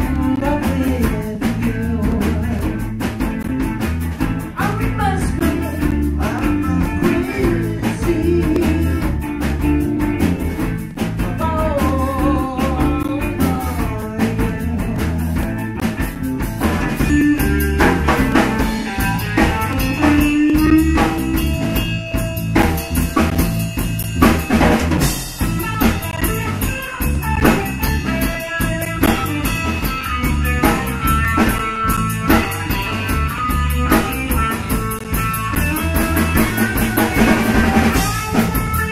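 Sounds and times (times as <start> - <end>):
blues rock band playing: 0.0 - 38.9
steady drum beat: 0.0 - 38.9.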